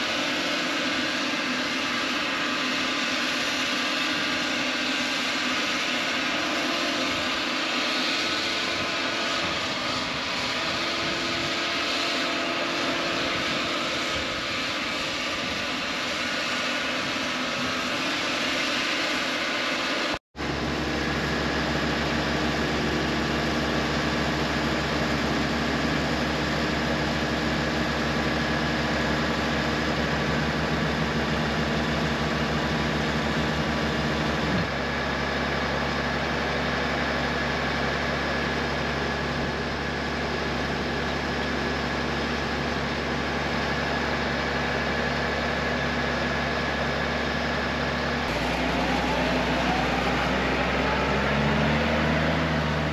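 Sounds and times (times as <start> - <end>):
thin steady whine: 0.0 - 52.9
tractor engine running: 0.0 - 52.9.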